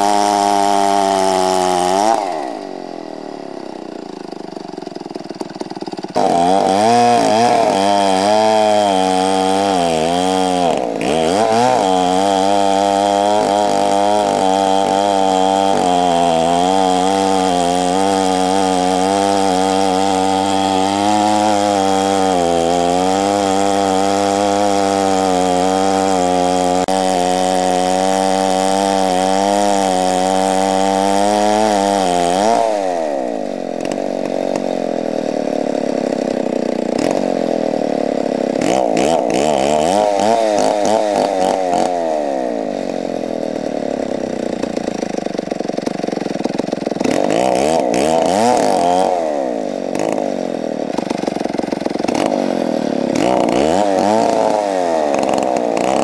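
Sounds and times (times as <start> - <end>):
chainsaw cutting through log: 0.0 - 56.0.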